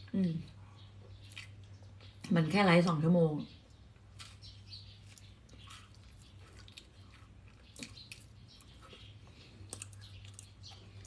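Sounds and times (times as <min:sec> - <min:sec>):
faint chewing of food: 0:00.4 - 0:02.2, 0:03.6 - 0:11.0.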